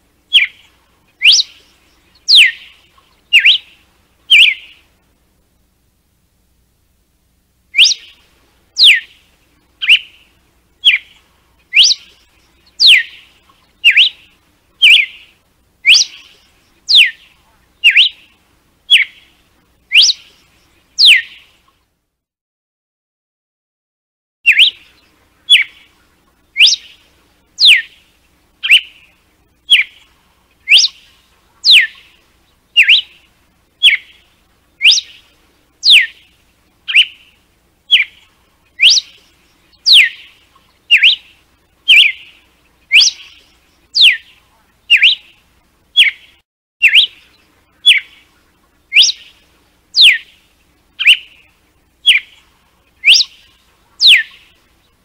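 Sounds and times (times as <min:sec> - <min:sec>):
bird whistling song: 0:00.3 - 0:04.9, 0:07.7 - 0:09.2, 0:09.8 - 0:21.6, 0:24.5 - 0:45.4, 0:46.0 - 0:55.0.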